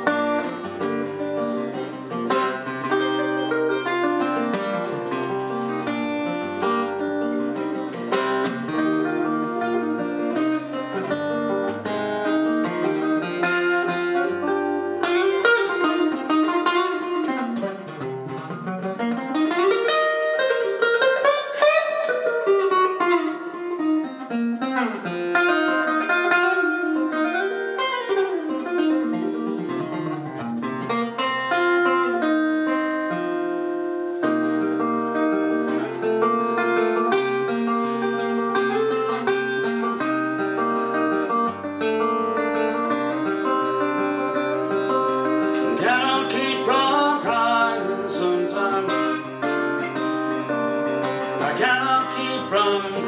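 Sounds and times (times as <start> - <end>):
acoustic guitar blues: 0.0 - 53.0.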